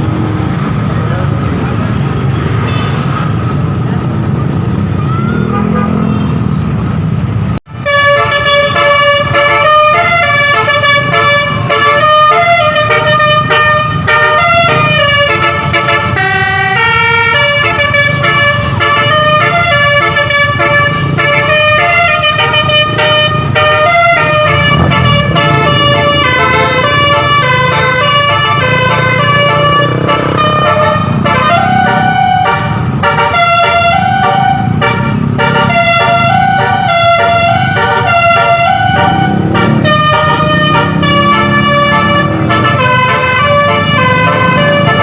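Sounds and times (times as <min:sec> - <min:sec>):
road and engine noise: 0:00.0 - 0:45.0
bus horn playing a melody: 0:05.4 - 0:06.2, 0:07.7 - 0:45.0.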